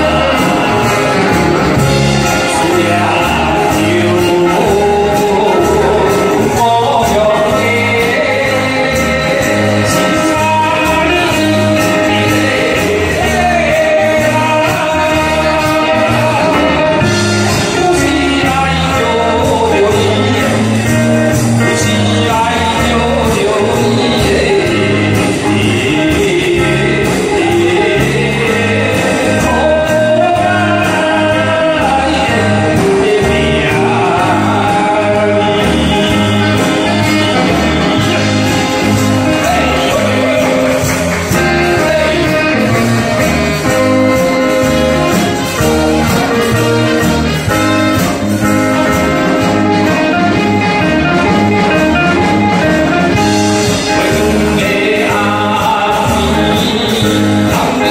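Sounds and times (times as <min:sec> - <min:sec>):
backing music with steady beat: 0:00.0 - 0:57.9
man singing into microphone: 0:00.0 - 0:57.9.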